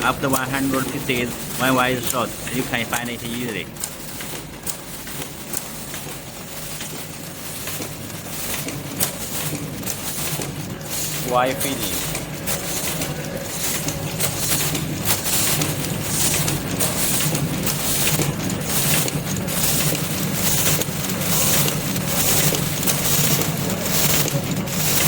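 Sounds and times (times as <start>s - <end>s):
machine hum: 0.0s - 25.0s
repeated mechanical clacks: 0.0s - 25.0s.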